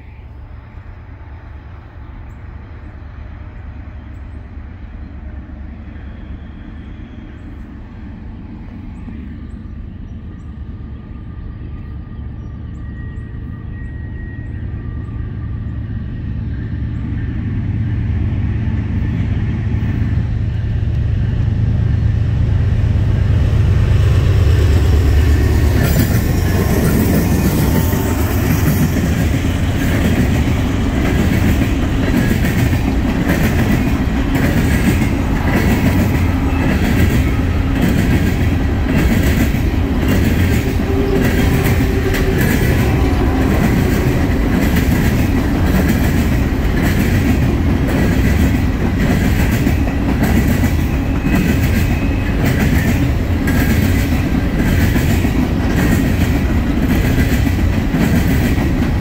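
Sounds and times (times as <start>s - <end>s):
diesel locomotive rumble: 0.0s - 59.0s.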